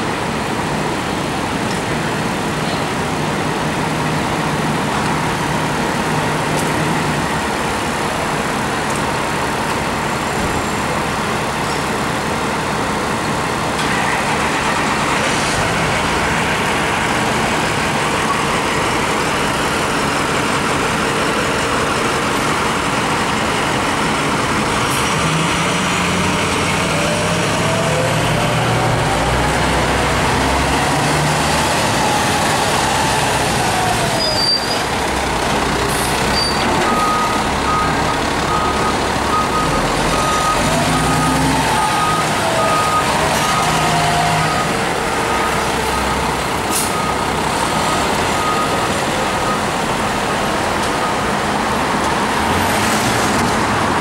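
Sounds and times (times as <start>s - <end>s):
city traffic noise: 0.0s - 54.0s
fire engine diesel engine rumbling: 0.0s - 54.0s.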